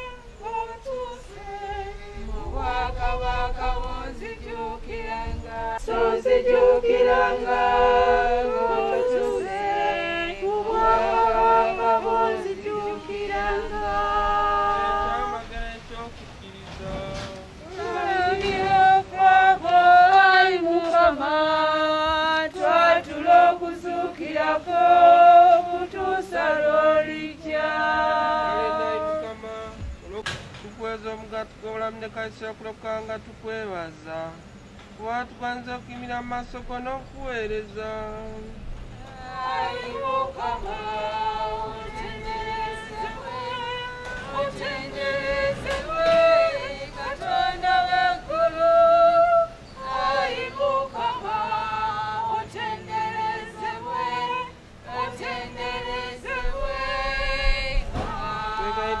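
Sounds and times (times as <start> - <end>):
woman singing a slow hymn: 0.0 - 34.4, 35.0 - 59.0.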